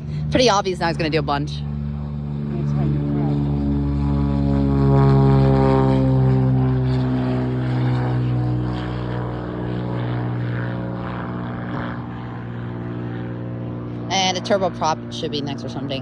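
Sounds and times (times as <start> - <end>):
propeller airplane flying past: 0.0 - 16.0.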